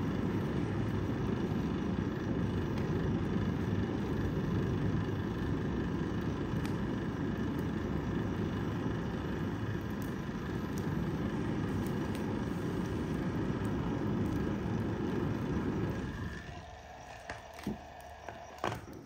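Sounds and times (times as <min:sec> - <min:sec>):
steady low rumble: 0:00.0 - 0:19.0
wood fire popping and crackling: 0:00.0 - 0:19.0.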